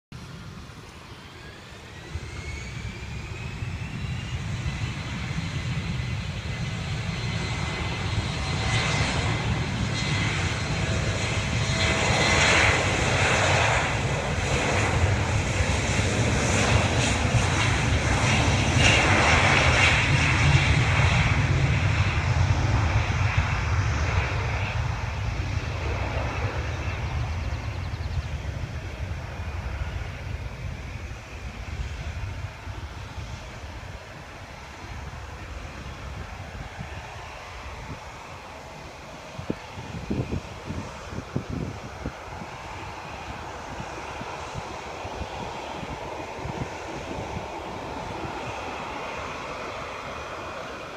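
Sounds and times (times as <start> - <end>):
jet engines spooling up: 0.2 - 50.9
jet roar: 0.2 - 50.9.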